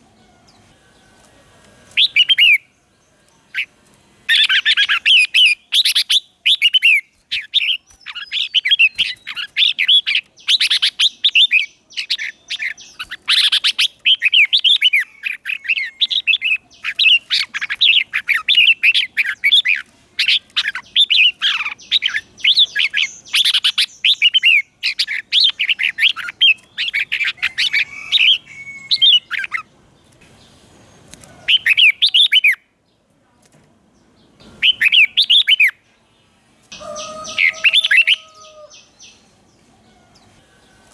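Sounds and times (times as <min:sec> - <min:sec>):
bird singing warbled phrases: 0:00.0 - 0:33.0, 0:33.9 - 0:40.9.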